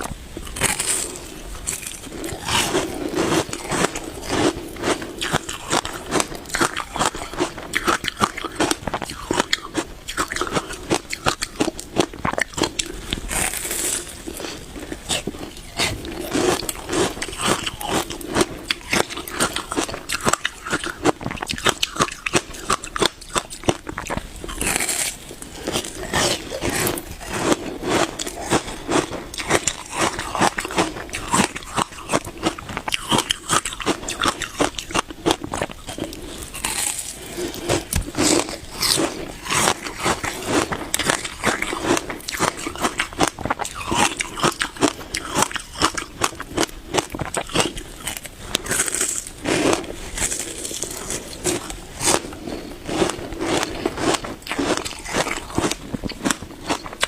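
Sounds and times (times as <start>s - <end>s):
frozen ice being bitten and chewed: 0.0s - 57.0s.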